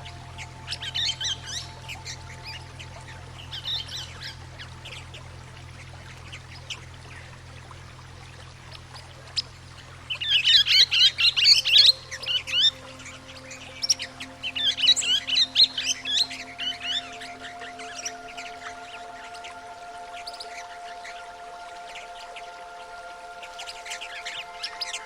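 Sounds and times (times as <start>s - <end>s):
running water: 0.0s - 25.0s
steady low drone: 0.0s - 25.0s.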